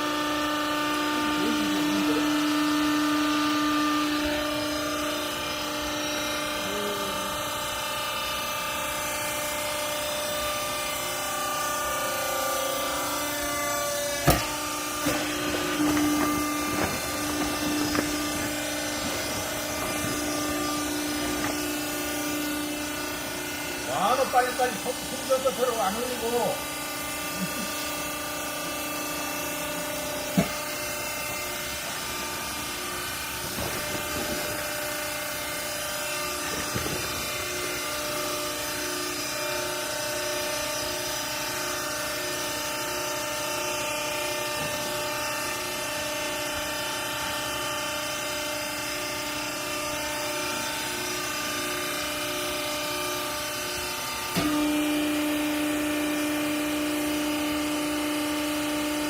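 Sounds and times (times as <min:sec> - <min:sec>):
hydraulic baler motor whining: 0:00.0 - 0:59.0.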